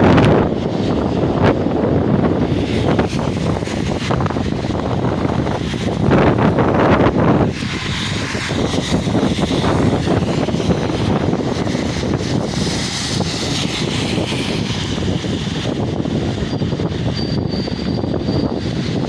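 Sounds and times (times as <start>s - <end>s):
heavy rain falling: 0.0s - 19.0s
wind rumble on microphone: 0.0s - 19.0s.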